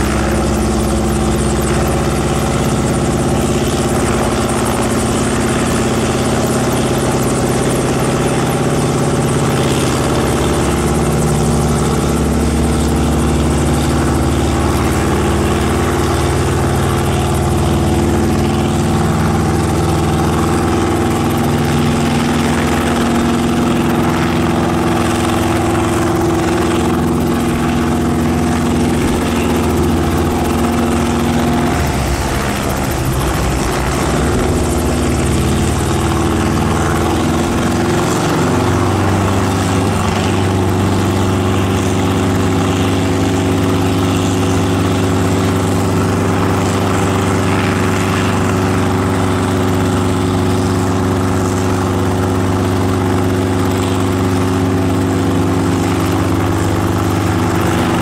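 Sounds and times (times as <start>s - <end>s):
helicopter engine and rotor running: 0.0s - 58.0s.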